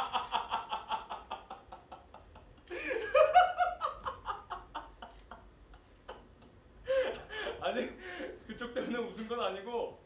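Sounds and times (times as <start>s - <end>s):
man laughing: 0.0s - 9.0s.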